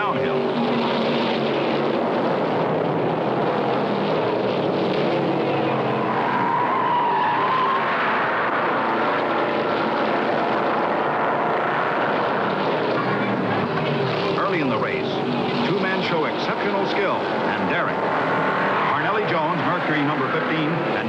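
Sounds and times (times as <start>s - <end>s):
race car engines running hard: 0.0s - 21.0s.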